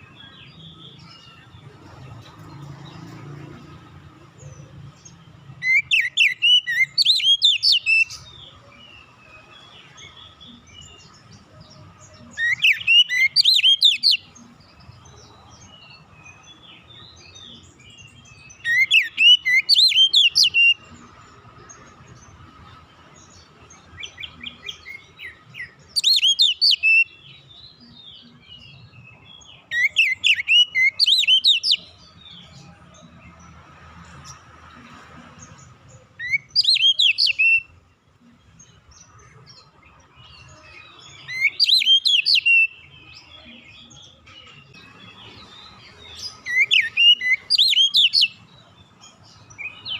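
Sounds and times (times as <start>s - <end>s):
songbird whistling song: 4.4s - 21.9s, 23.3s - 32.8s, 35.4s - 37.8s, 38.5s - 49.9s.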